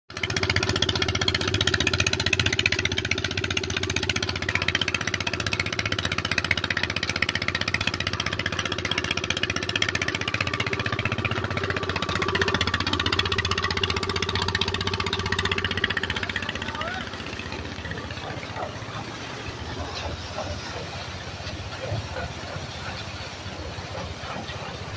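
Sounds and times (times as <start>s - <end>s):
water gushing into tank: 0.1s - 24.9s
water pump engine running: 0.1s - 24.9s.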